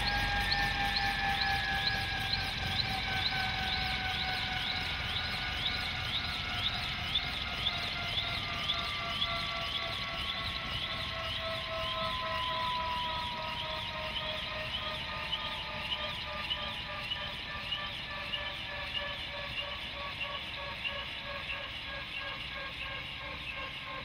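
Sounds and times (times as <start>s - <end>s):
helicopter turbine whine falling: 0.0s - 24.0s.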